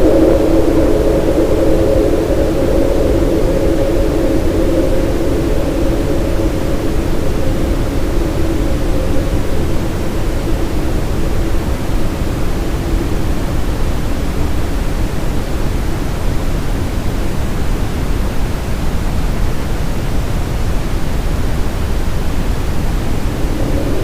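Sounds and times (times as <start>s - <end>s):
brown noise hiss: 0.0s - 24.0s.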